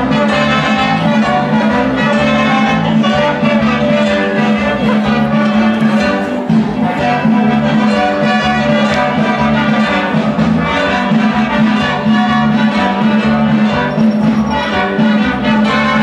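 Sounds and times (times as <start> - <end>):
band playing carnival dance music: 0.0 - 16.0.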